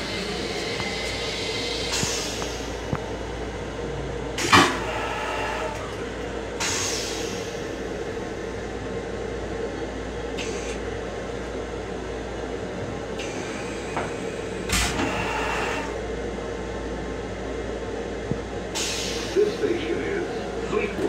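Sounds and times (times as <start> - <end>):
electric railcar hum: 0.0 - 21.0.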